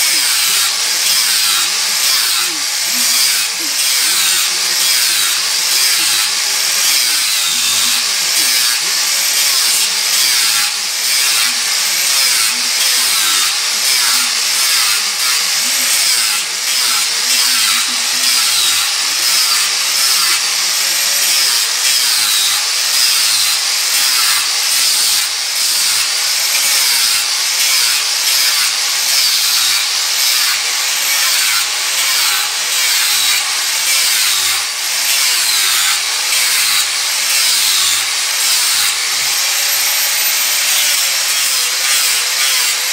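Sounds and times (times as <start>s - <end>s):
angle grinder sanding wood: 0.0s - 42.9s.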